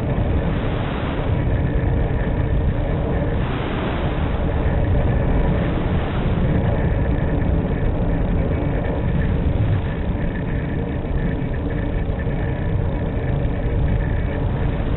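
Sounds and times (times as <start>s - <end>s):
faint steady tones: 0.0s - 14.9s
rushing airflow: 0.0s - 14.9s.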